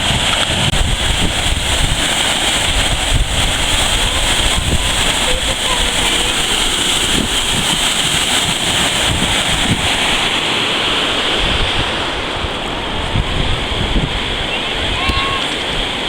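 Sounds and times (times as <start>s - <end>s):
waterfall rushing: 0.0s - 16.0s
wind buffeting microphone: 0.0s - 16.0s.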